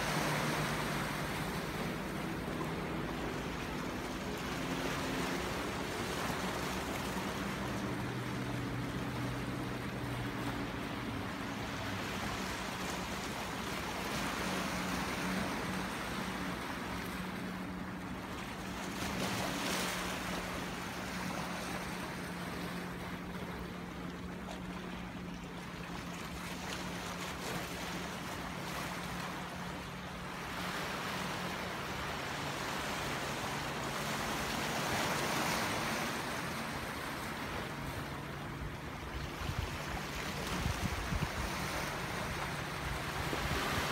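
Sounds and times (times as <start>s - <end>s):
rough sea waves breaking: 0.0s - 43.9s.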